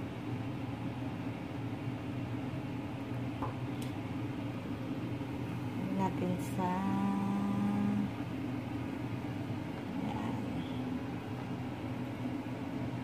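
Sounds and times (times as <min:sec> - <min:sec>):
kitchen appliance humming: 0:00.0 - 0:13.0.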